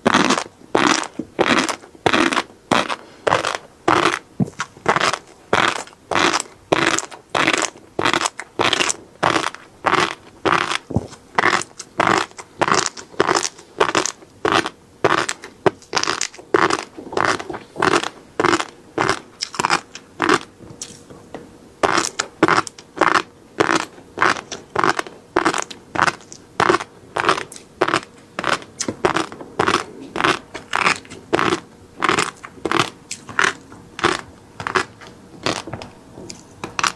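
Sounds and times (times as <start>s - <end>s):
close chewing: 0.0s - 21.1s, 21.8s - 36.9s.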